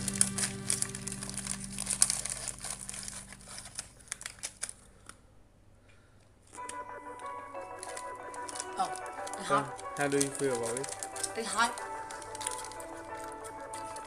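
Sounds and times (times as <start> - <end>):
snack bag crackling: 0.0 - 5.2, 6.4 - 14.0.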